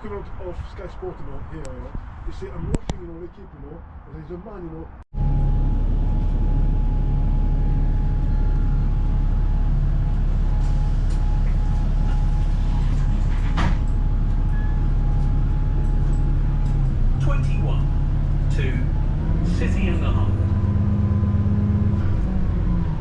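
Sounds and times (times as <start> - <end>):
bus engine drone: 0.0 - 23.0.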